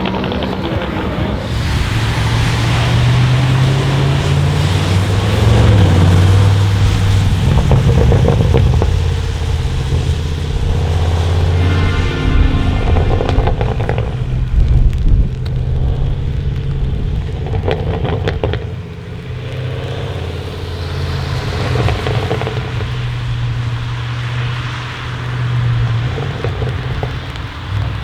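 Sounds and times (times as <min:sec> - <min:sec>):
exhaust crackles: 0:00.0 - 0:28.0
car engine at low revs: 0:00.1 - 0:28.0.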